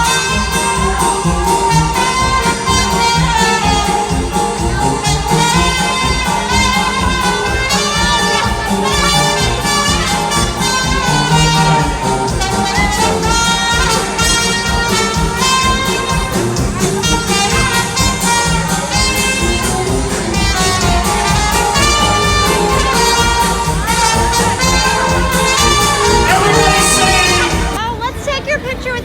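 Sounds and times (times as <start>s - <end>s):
brass band playing polka: 0.0s - 27.9s.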